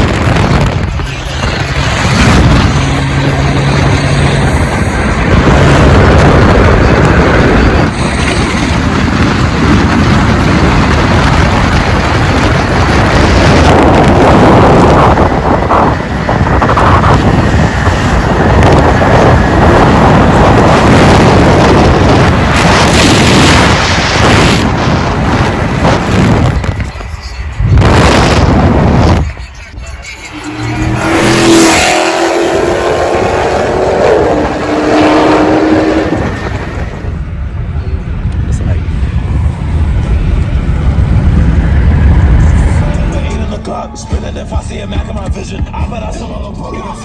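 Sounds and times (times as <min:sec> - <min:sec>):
wind buffeting microphone: 0:00.0 - 0:44.2
loud car engine and exhaust: 0:00.0 - 0:47.0.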